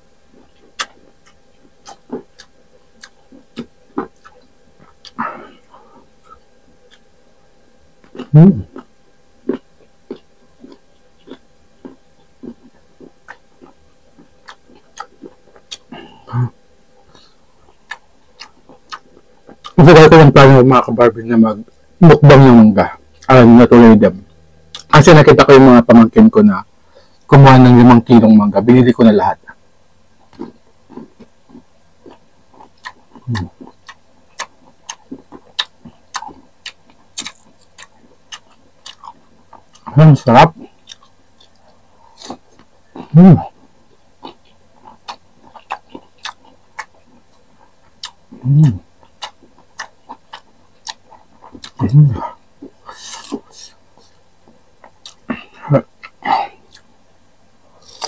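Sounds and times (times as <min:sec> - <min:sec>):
crunchy chewing: 0:00.2 - 0:20.2, 0:21.7 - 0:25.5, 0:29.4 - 0:57.0, 0:57.7 - 0:58.0.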